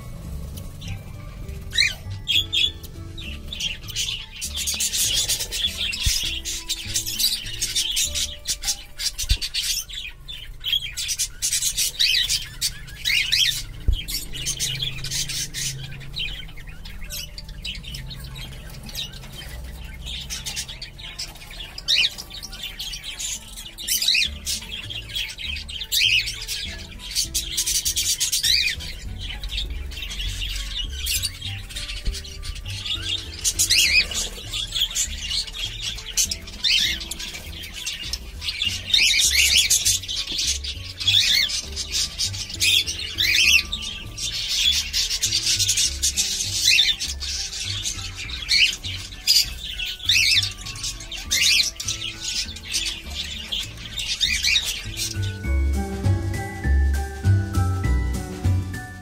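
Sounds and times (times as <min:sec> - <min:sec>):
cockatiels squawking and chirping: 0:00.0 - 0:59.0
faint background music: 0:00.0 - 0:59.0.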